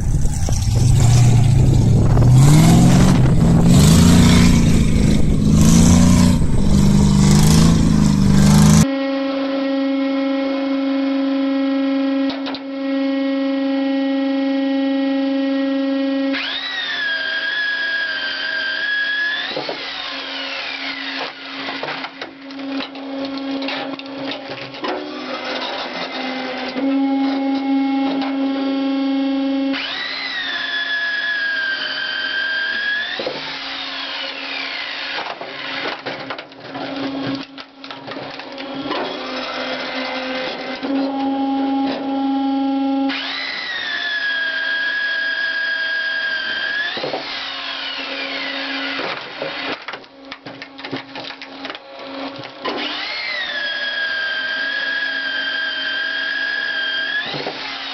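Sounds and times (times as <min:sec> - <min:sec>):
machine motor humming and whining: 0:00.0 - 0:08.9, 0:09.8 - 0:36.0, 0:36.7 - 0:49.8, 0:50.9 - 0:57.9.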